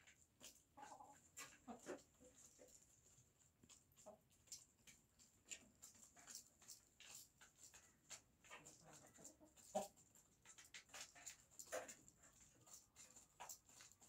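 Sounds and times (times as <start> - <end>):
hens pecking at feed: 0.0 - 14.0.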